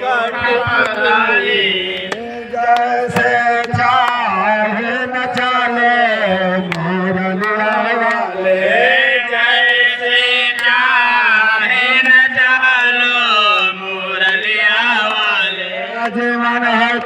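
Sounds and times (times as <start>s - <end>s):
man singing into a microphone: 0.0s - 17.0s
men singing along: 0.0s - 17.0s.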